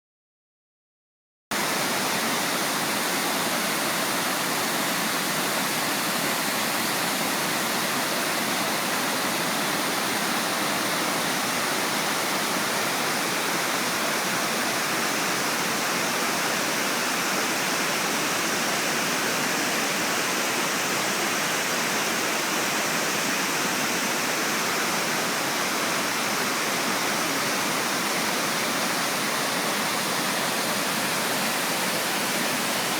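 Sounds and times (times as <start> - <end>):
waterfall roaring: 1.6 - 32.9.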